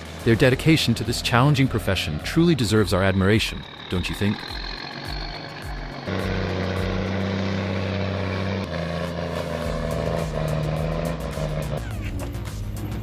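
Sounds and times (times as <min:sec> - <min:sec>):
background music: 0:00.0 - 0:13.0
heavy machine engine running: 0:00.0 - 0:13.0.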